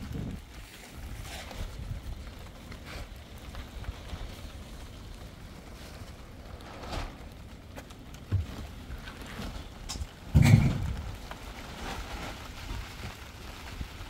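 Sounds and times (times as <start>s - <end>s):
steady rain falling: 0.0s - 14.0s
wind rumbling on microphone: 0.0s - 14.0s.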